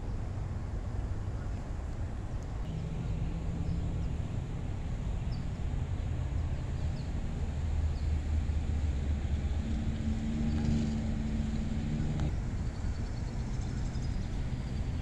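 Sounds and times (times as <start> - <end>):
distant vehicle engine hum: 0.0 - 15.0.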